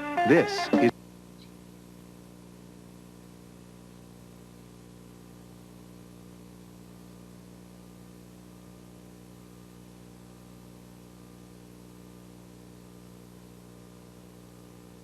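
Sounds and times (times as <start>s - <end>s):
faint mains hum: 0.0s - 15.0s.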